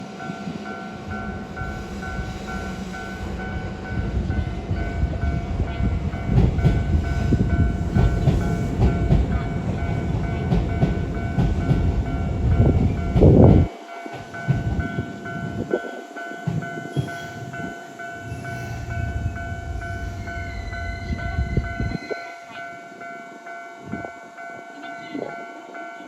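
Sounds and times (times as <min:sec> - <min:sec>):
electric train rumble: 0:00.0 - 0:26.0
level-crossing warning bell ringing: 0:00.0 - 0:26.0.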